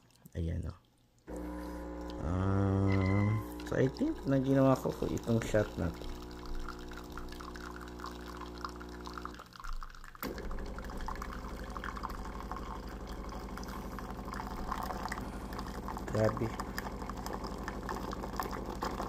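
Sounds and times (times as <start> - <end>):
coffee trickling into cup: 0.0 - 19.0
espresso machine pump humming: 1.3 - 19.0.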